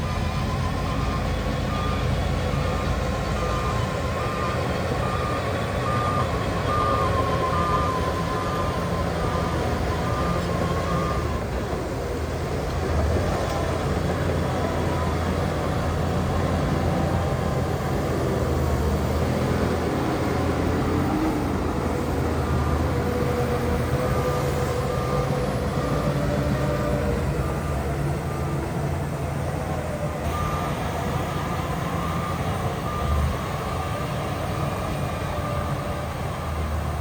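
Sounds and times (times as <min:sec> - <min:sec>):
reversing alarm beeping: 0:00.0 - 0:11.6, 0:14.0 - 0:37.0
heavy diesel machinery running: 0:00.0 - 0:37.0.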